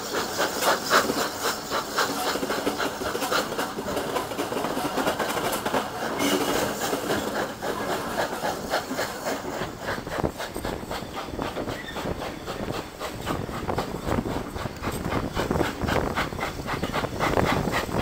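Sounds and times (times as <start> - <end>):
steam locomotive exhaust: 0.0 - 18.0
train wheels clattering on rails: 0.0 - 18.0.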